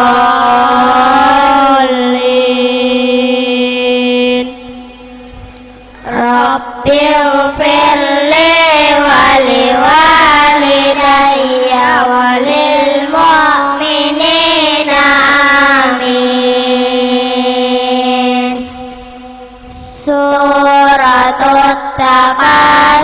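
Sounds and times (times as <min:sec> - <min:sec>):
children chanting over loudspeaker: 0:00.0 - 0:05.2, 0:05.9 - 0:23.0.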